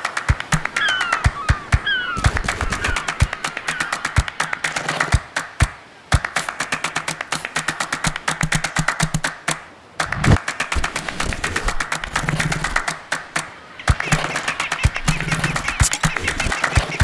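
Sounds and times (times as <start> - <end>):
fast percussive clapping music: 0.0 - 17.0.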